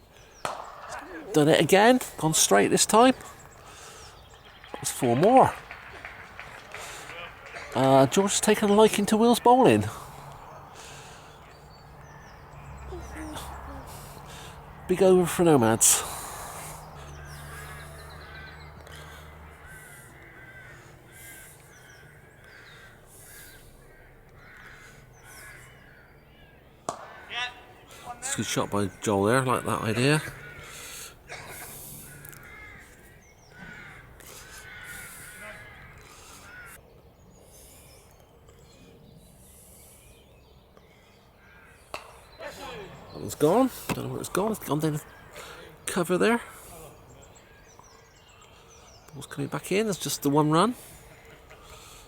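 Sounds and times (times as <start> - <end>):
crows cawing: 0.0 - 36.9, 40.4 - 52.0
distant bird chirps: 0.0 - 52.0.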